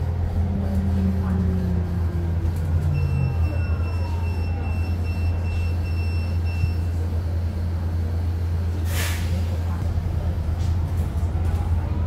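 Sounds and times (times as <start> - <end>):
electric bus rumbling: 0.0 - 12.0.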